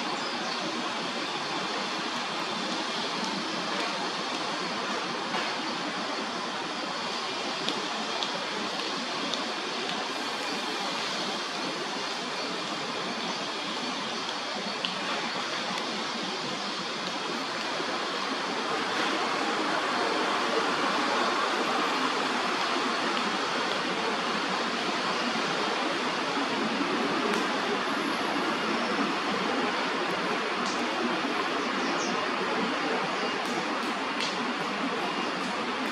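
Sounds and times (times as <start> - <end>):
steady rushing noise: 0.0 - 35.9.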